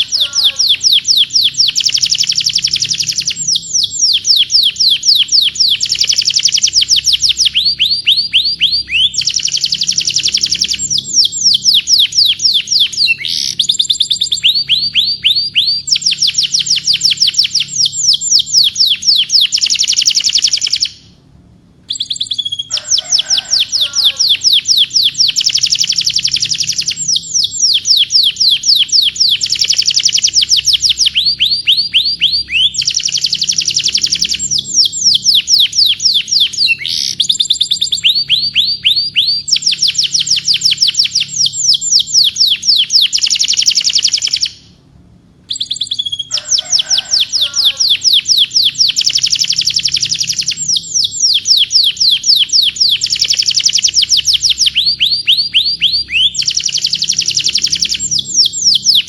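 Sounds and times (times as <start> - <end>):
canary singing in fast trills: 0.0 - 21.2, 21.9 - 44.7, 45.5 - 59.0.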